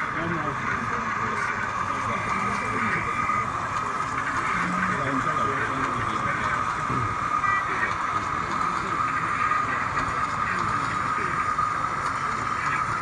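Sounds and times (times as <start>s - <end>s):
indistinct crowd chatter: 0.0s - 13.0s
steady background din: 0.0s - 13.0s.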